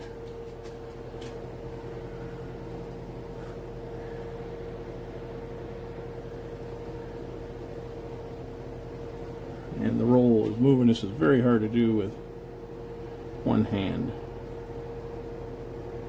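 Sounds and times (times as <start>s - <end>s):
electric motor hum with whine: 0.0s - 16.0s.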